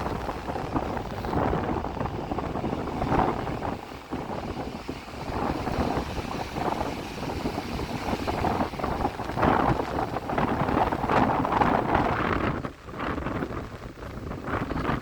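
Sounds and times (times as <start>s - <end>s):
surf rushing: 0.0s - 15.0s
wind buffeting microphone: 0.0s - 15.0s.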